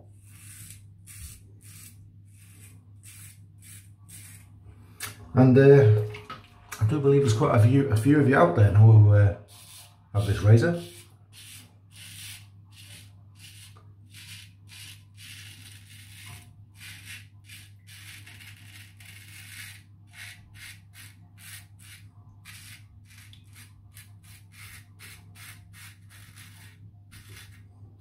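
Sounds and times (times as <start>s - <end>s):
razor scraping stubble: 0.0s - 4.5s, 9.5s - 27.7s
low steady hum: 0.0s - 28.0s.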